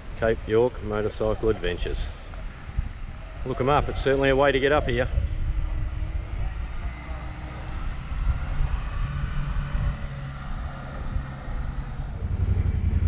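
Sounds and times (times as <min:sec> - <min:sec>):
motorcycle engines idling: 0:00.0 - 0:13.0
wind buffeting microphone: 0:00.0 - 0:13.0.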